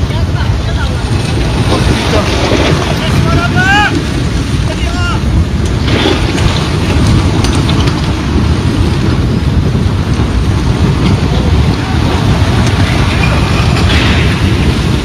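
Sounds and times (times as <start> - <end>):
mine blast rumbling: 0.0 - 15.0.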